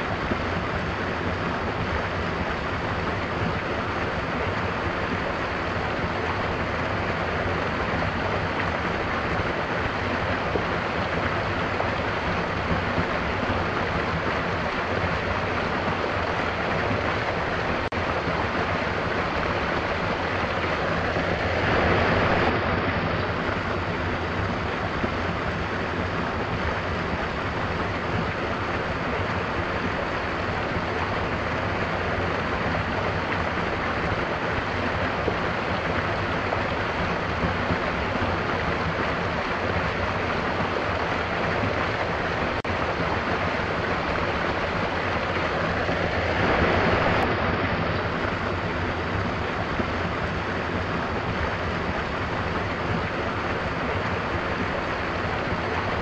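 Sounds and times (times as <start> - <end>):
small waterfall rushing and splashing: 0.0 - 56.0.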